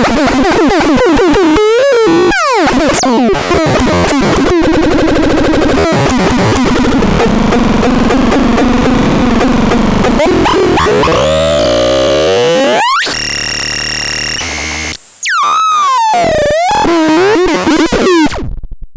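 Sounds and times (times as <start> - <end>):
synthesizer warbling and buzzing: 0.2 - 18.6.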